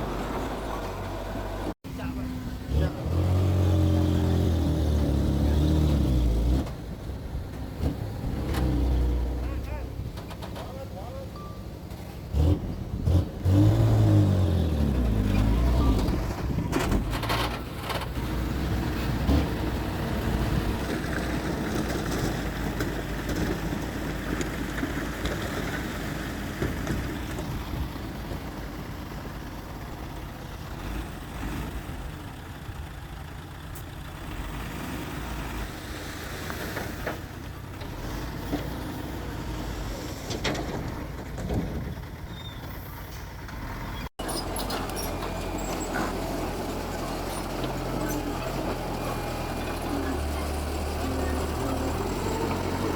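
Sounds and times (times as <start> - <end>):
heavy diesel engines working: 0.0 - 52.9.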